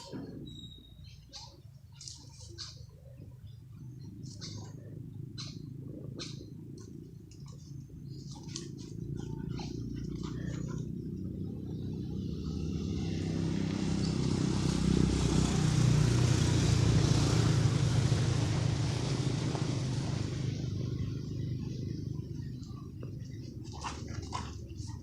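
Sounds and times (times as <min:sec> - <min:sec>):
vehicle driving past: 0:03.8 - 0:25.0.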